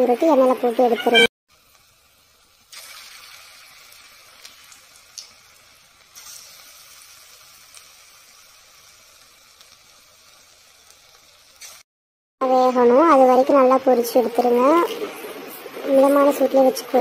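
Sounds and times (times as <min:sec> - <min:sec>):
deep-frying sizzle with pops: 0:00.0 - 0:17.0.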